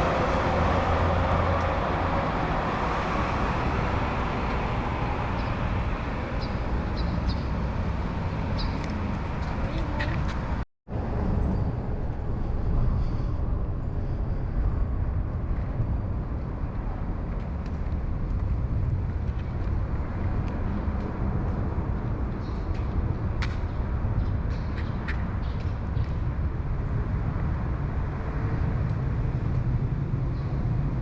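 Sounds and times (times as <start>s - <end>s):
low rumbling city noise: 0.0s - 31.0s.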